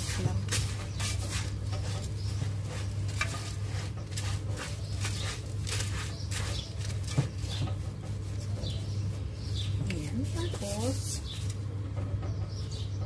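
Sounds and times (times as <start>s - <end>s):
dry rice rustling in metal pot: 0.0s - 11.7s.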